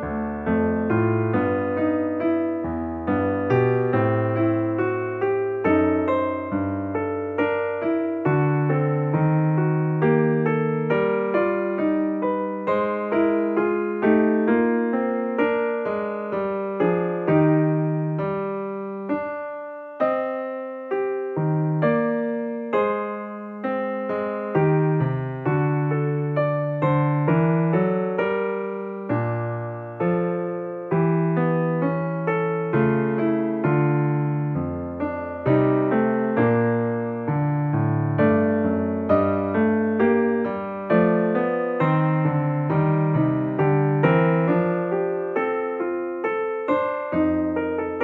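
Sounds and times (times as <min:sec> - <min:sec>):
electric piano melody: 0:00.0 - 0:48.0.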